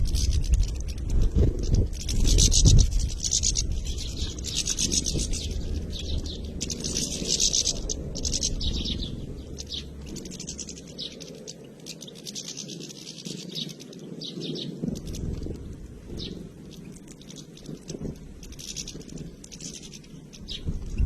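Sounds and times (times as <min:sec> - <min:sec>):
low rumble: 0:00.0 - 0:11.8, 0:14.8 - 0:21.0
flock of finches twittering: 0:00.0 - 0:21.0.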